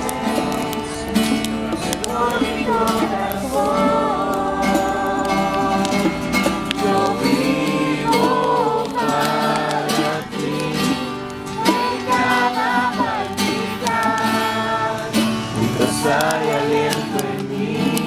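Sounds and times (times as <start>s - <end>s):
acoustic guitar: 0.0s - 18.0s
person singing worship song: 0.0s - 18.0s.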